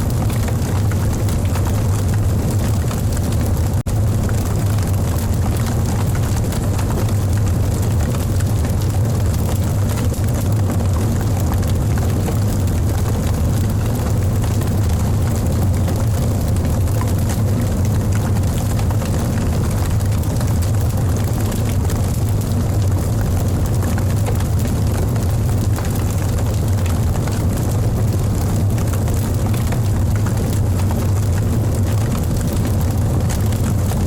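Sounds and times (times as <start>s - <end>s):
low rumble of flames: 0.0s - 34.0s
wood crackling in fire: 0.0s - 34.0s.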